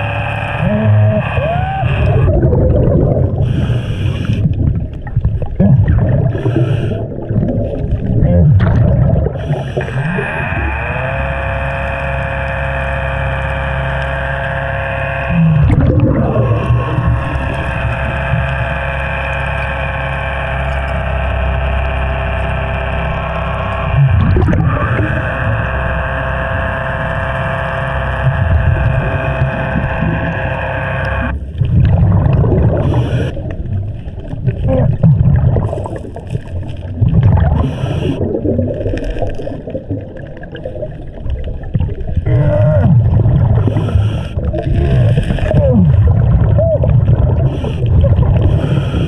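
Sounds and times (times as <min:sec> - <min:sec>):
regulator bubbles gurgling: 0:00.0 - 0:49.0
underwater motor whine: 0:00.0 - 0:49.0.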